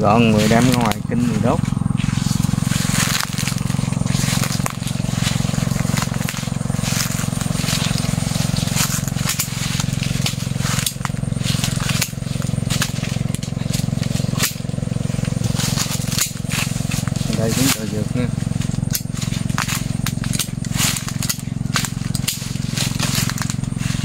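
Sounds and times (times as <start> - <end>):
branches being handled: 0.0 - 24.0
footsteps crackling through dry leaves: 0.0 - 24.0
low motor hum: 0.0 - 24.0.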